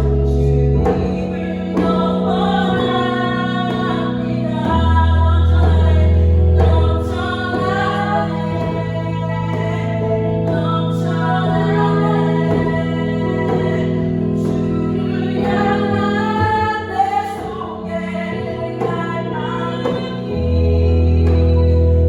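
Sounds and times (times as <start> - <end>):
person singing: 0.0 - 22.0
piano chords: 0.0 - 22.0.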